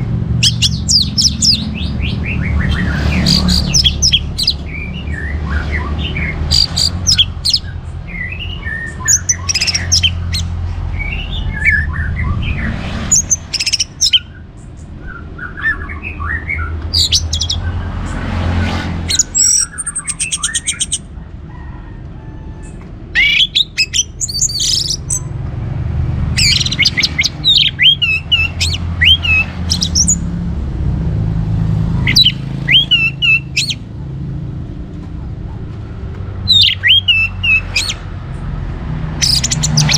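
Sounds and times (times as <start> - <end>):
thrush singing: 0.0 - 21.2, 23.1 - 34.0, 36.3 - 39.9.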